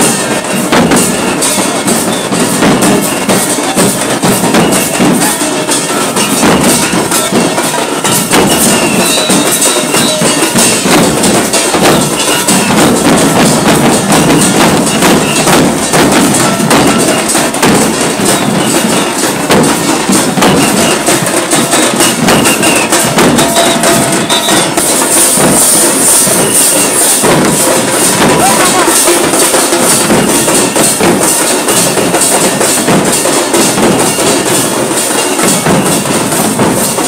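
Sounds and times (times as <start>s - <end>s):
drum band playing loud rhythm: 0.0s - 37.0s.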